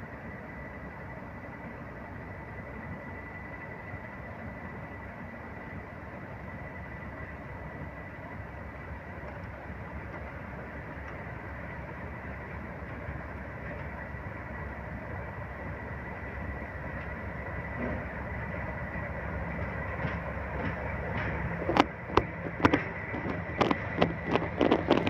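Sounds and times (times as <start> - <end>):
diesel locomotive engine rumble: 0.0 - 25.0.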